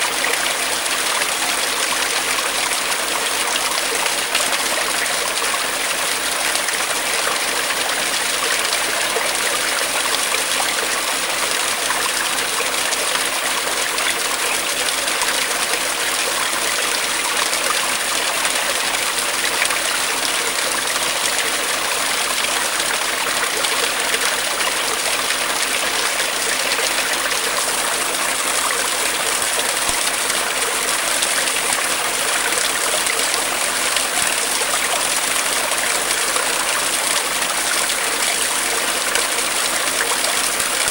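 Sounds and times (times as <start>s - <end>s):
brook water trickling: 0.0s - 40.9s.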